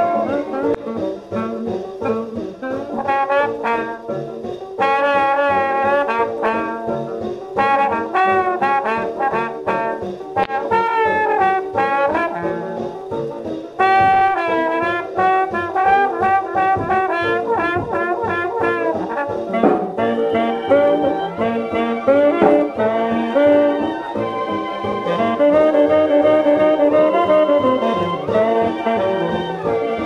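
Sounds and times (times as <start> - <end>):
swing big band brass: 0.0 - 30.0.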